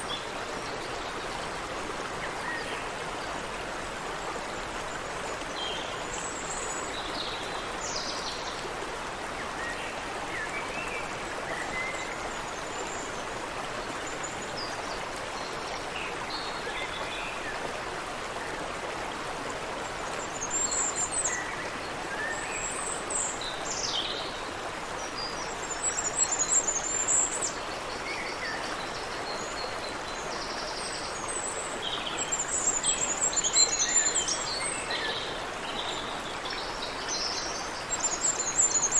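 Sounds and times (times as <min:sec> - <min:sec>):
creek flowing over rocks: 0:00.0 - 0:38.9.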